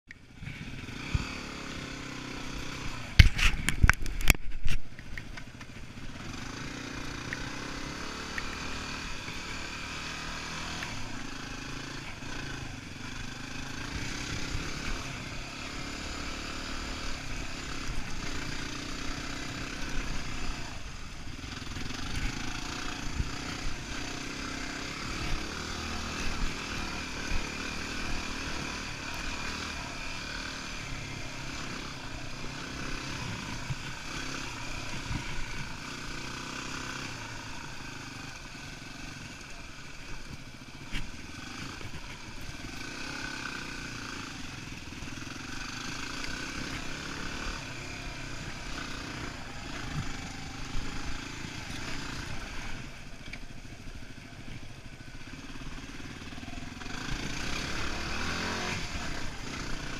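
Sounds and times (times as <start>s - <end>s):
motorcycle engine running: 0.1s - 59.9s.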